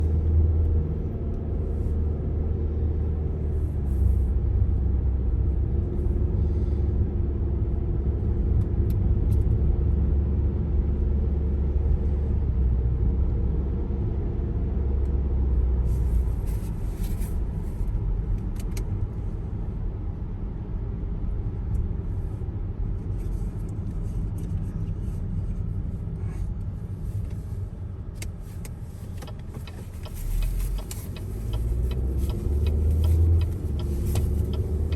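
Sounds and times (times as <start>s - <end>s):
car tyres and engine rumble: 0.0s - 34.9s.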